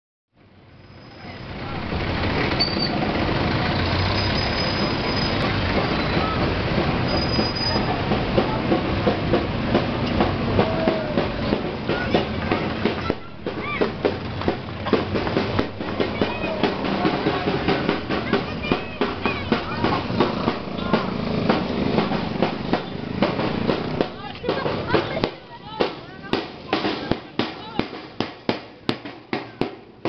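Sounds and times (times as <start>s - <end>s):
crowd din: 1.1s - 30.0s
motorcycle engines running: 1.3s - 26.8s
sharp rhythmic strokes: 2.6s - 30.0s.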